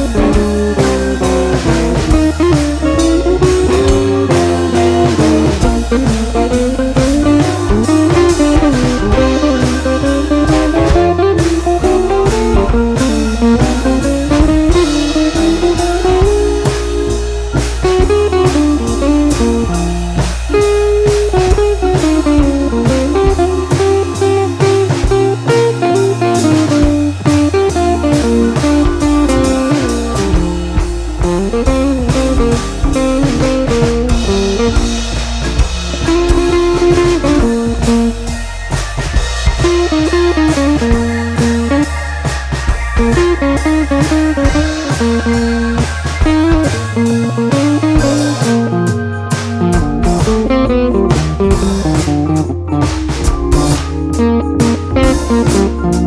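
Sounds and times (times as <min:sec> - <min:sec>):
blues guitar instrumental: 0:00.0 - 0:56.0
drums steady beat: 0:00.0 - 0:56.0.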